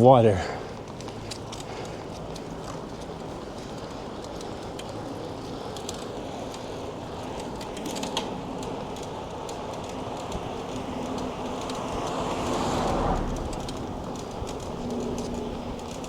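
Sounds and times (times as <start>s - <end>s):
bicycle tyres and wind rumble: 0.0s - 16.0s
light bicycle clicks: 0.6s - 16.0s.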